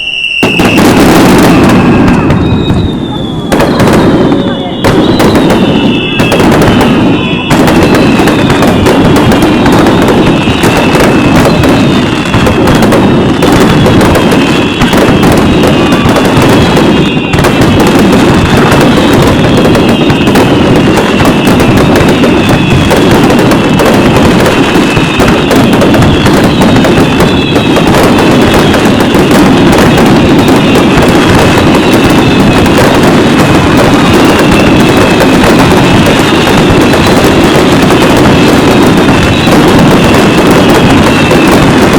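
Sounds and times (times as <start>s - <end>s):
fireworks bursting and crackling: 0.0s - 41.9s
whistling fireworks: 0.0s - 41.9s.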